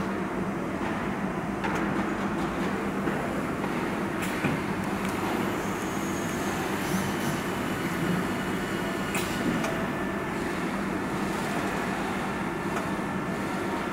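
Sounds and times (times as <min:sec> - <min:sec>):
workshop machinery humming: 0:00.0 - 0:13.9.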